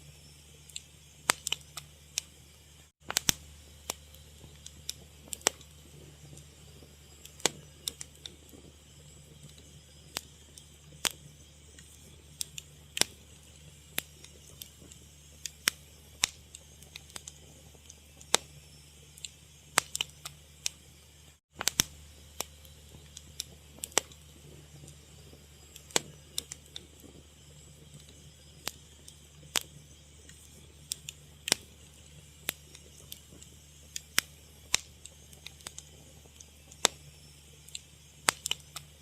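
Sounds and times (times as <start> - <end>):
fire crackling: 0.1 - 39.0.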